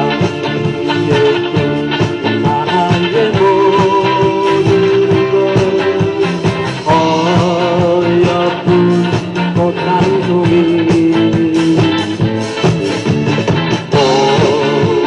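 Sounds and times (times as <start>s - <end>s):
live rock band playing: 0.0s - 15.0s
long-held lead melody: 0.0s - 15.0s
steady drum beat: 0.0s - 15.0s.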